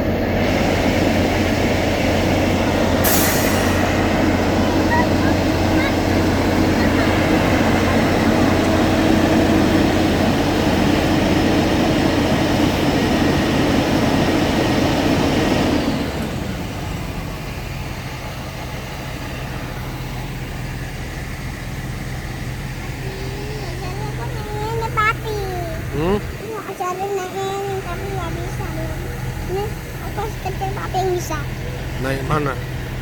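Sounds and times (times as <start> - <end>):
machine engine humming: 0.0 - 33.0.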